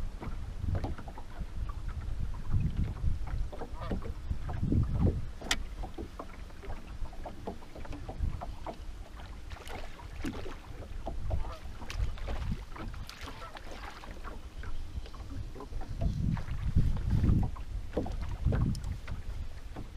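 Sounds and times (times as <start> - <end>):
waves lapping against boat hull: 0.0 - 19.9
wind rumbling on microphone: 0.0 - 19.9.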